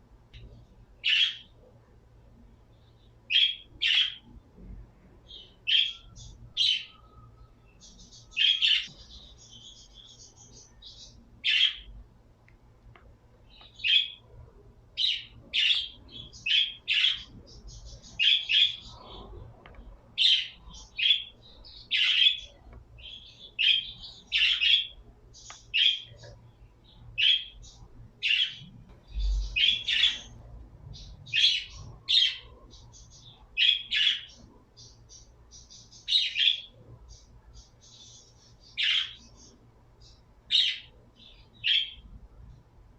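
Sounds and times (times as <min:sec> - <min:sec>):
pet birds chirping: 0:00.4 - 0:01.7, 0:02.7 - 0:04.4, 0:05.2 - 0:12.2, 0:12.9 - 0:42.7.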